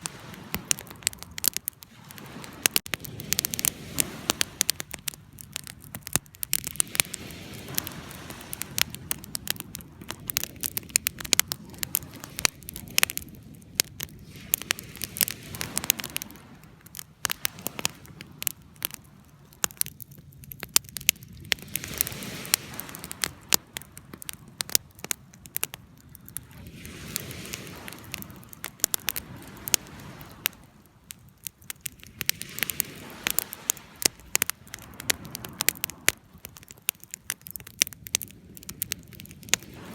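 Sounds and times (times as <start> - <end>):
fire pops and crackles: 0.0 - 39.9
low rush of flames: 0.0 - 39.9.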